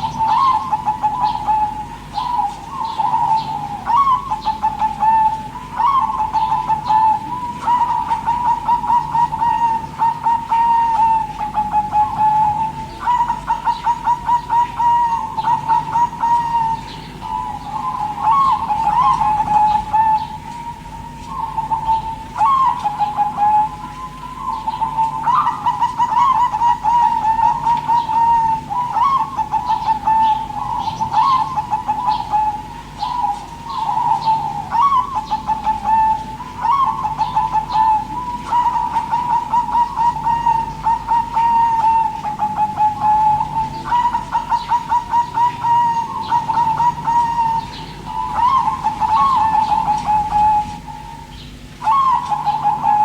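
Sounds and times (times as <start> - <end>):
dove cooing: 0.0 - 53.0.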